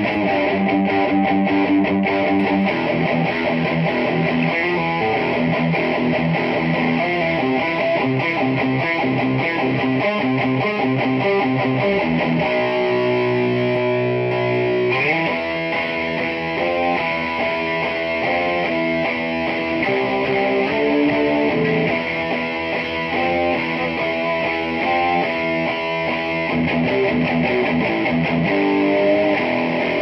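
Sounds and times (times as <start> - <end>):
electric guitar playing chords: 0.0 - 30.0.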